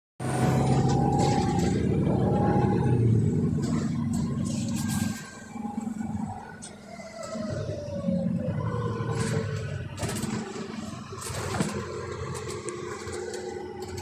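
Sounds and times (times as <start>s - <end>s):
bus diesel engine rumbling: 0.2s - 14.0s.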